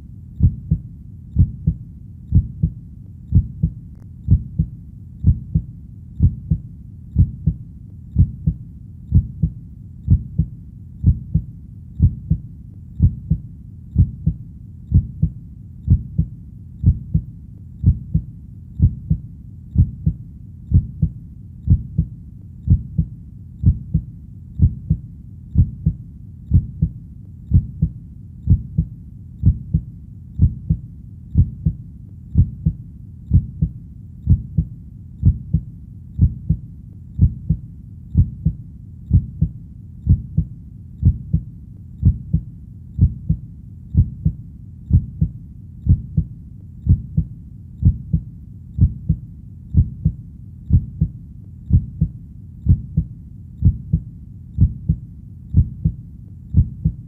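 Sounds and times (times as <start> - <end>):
faint low hum: 0.0 - 57.0
heartbeat thumps: 0.4 - 57.0.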